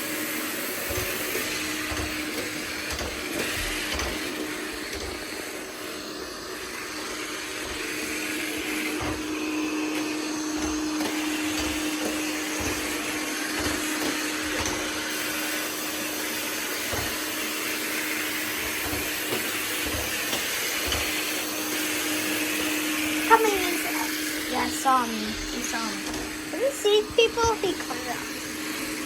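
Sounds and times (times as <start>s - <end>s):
robot vacuum motor hum: 0.0s - 29.0s.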